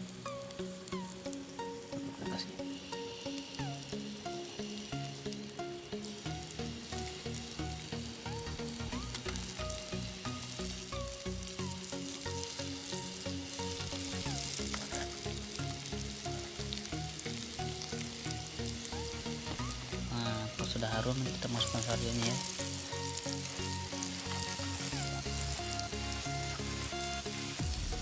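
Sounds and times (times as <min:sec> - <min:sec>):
background music with steady beat: 0:00.0 - 0:28.0
garlic sizzling in hot oil: 0:00.0 - 0:28.0.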